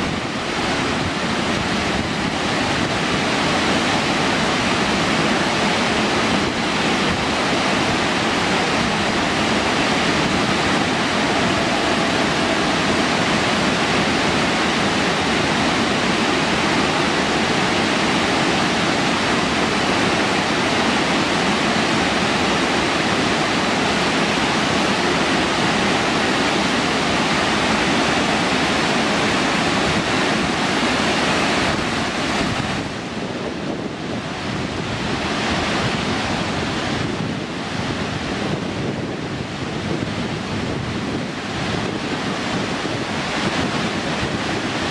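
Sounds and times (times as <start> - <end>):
waterfall splashing on rocks: 0.0 - 40.0.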